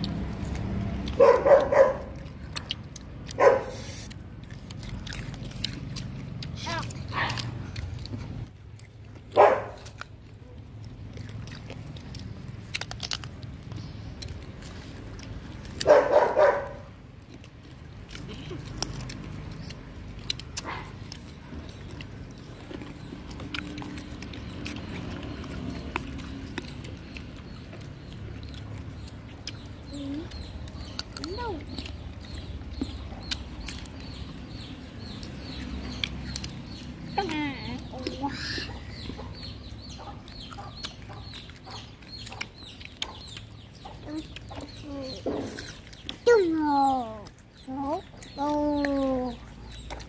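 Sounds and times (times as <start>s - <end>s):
birds chirping: 0.0s - 50.0s
people chewing fruit: 0.0s - 50.0s.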